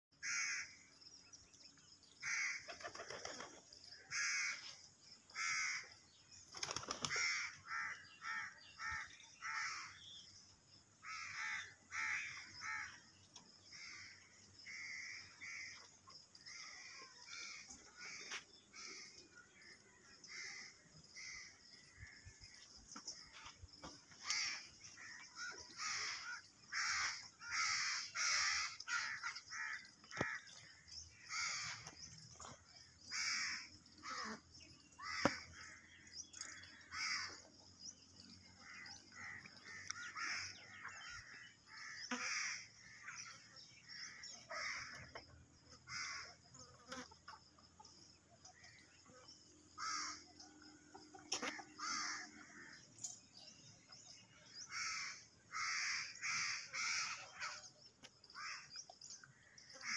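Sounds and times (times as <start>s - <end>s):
birds calling: 0.2s - 59.9s.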